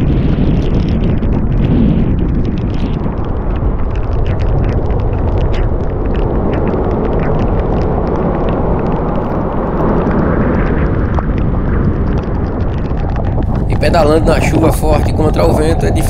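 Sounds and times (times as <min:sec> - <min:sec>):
raindrops ticking: 0:00.0 - 0:16.0
wind buffeting microphone: 0:00.0 - 0:16.0.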